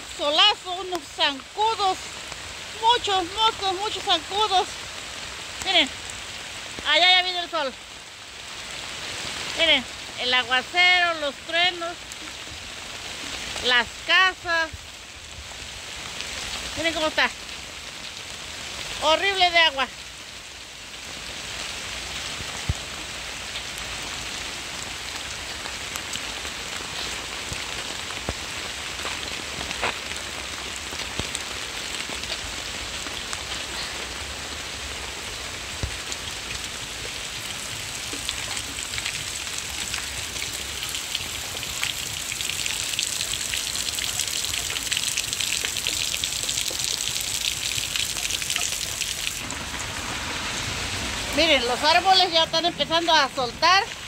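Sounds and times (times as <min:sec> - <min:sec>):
heavy rain on leaves and patio: 0:00.0 - 0:54.0.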